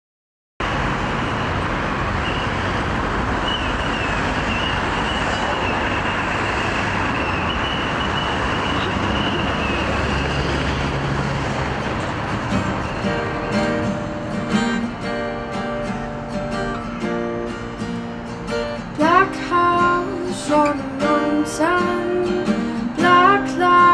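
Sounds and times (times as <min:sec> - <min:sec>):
road traffic noise: 0:00.6 - 0:23.9
vehicle engine hum: 0:00.6 - 0:23.9
thin high whine: 0:00.7 - 0:23.4.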